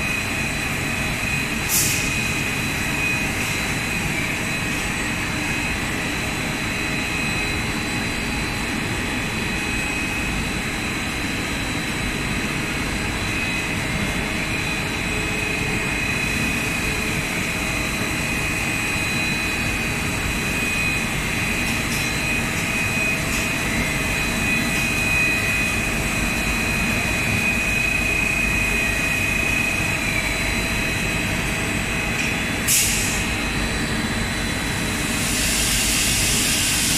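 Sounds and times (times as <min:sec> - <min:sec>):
high steady machine whines: 0:00.0 - 0:36.9.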